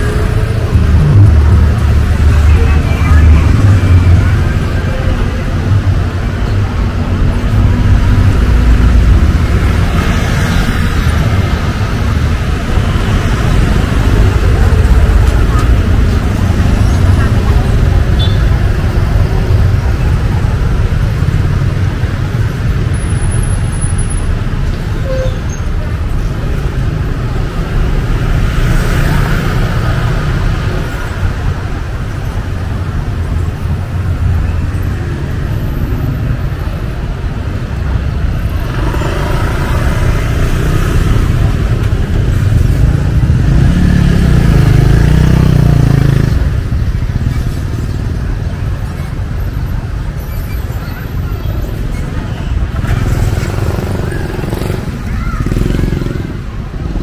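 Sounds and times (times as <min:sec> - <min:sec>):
motorbike and traffic engines: 0:00.0 - 0:57.0.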